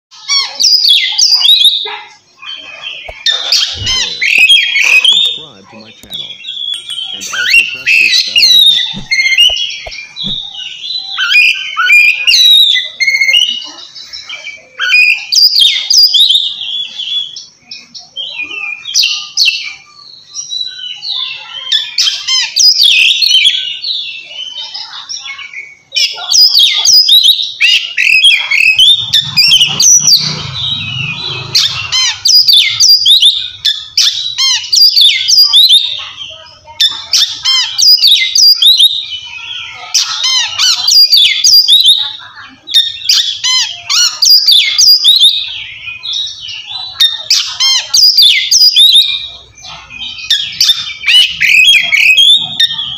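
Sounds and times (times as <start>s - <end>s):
bird singing whistled song: 2.8s - 52.9s.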